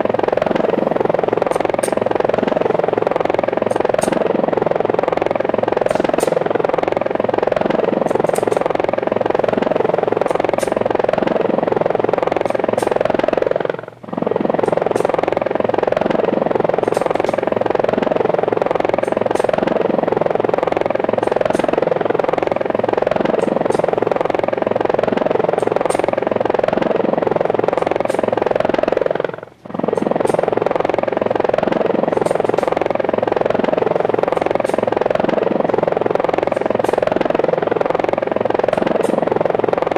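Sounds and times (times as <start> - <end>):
propellers whirring: 0.0 - 39.9.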